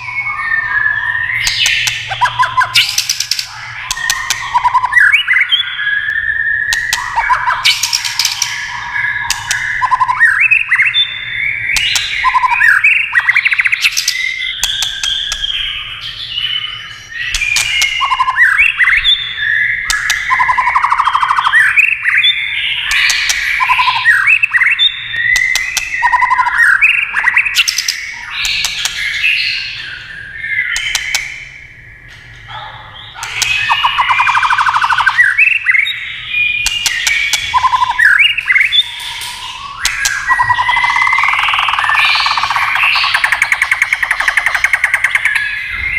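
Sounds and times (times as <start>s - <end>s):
bird song whistles and warbles: 0.0s - 45.9s
bird sharp clicking calls: 1.4s - 11.1s, 11.7s - 16.1s, 16.9s - 19.2s, 19.8s - 29.8s, 30.6s - 45.5s.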